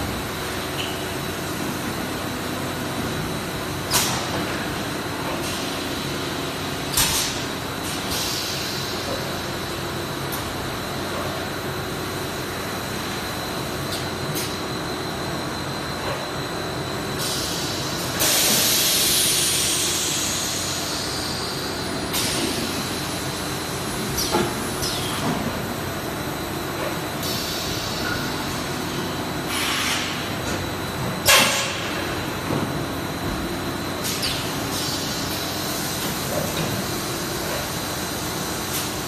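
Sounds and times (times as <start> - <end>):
machine hum and whine: 0.0 - 39.0.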